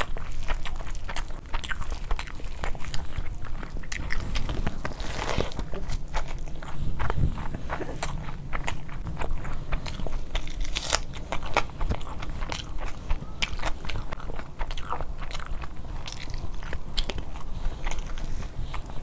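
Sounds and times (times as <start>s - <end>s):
close chewing clicks and crackles: 0.0s - 19.0s.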